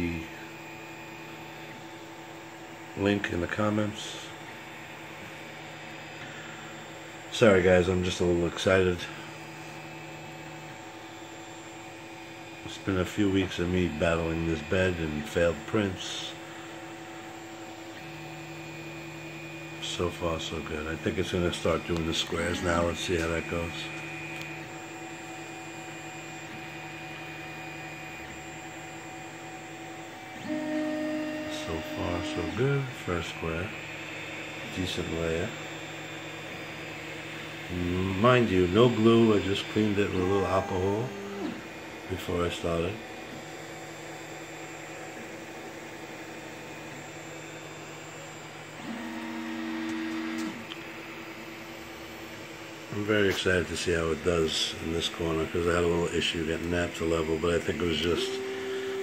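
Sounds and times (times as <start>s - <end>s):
cooling fans: 0.0s - 59.0s
printer stepper motors humming: 0.0s - 59.0s.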